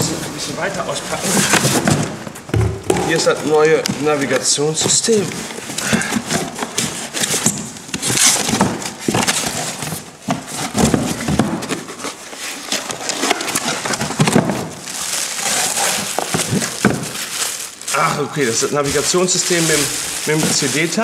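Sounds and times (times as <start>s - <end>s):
plastic wrapping rustling: 0.0s - 21.0s.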